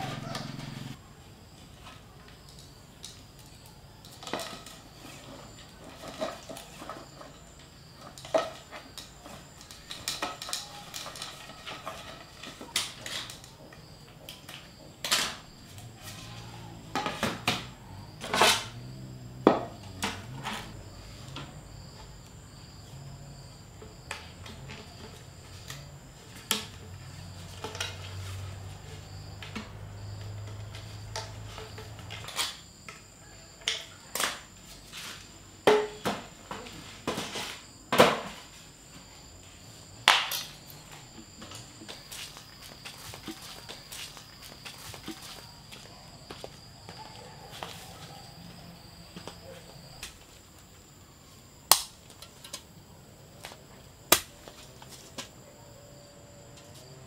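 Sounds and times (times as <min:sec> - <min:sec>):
high insect chirping: 0:00.0 - 0:57.0.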